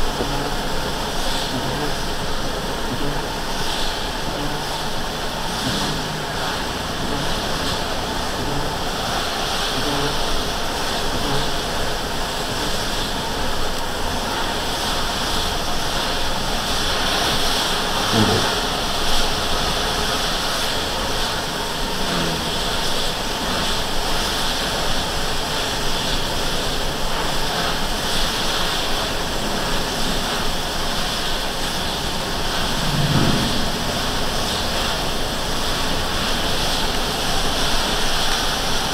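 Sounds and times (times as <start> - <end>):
tyres hissing on wet road: 0.0 - 38.9.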